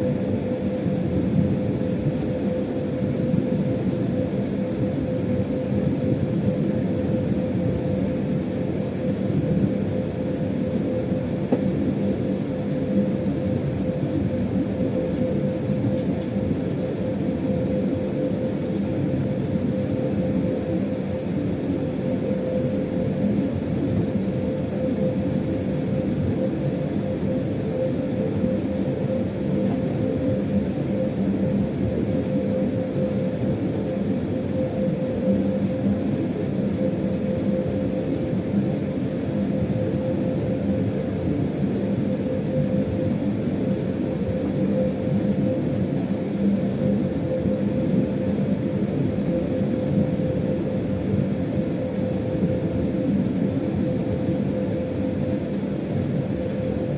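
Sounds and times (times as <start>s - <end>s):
steady hum: 0.0s - 56.9s.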